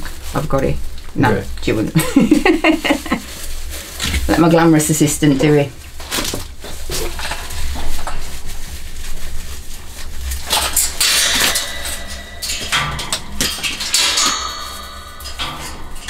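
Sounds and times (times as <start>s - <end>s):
mesh enclosure rustling and scraping: 0.0s - 16.0s.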